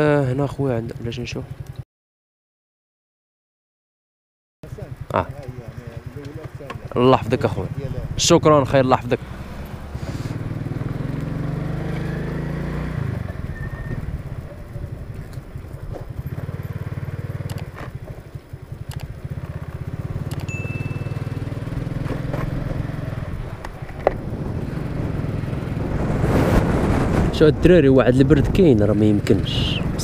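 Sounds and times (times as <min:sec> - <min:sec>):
motor scooter engine running: 0:00.0 - 0:01.8, 0:04.6 - 0:27.4, 0:28.5 - 0:30.0.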